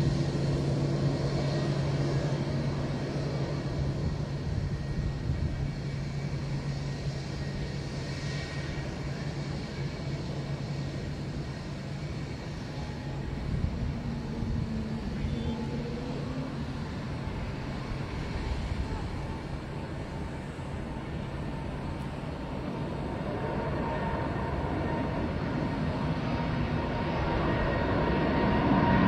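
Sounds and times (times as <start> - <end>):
jet engines rumbling at takeoff: 0.0 - 29.0.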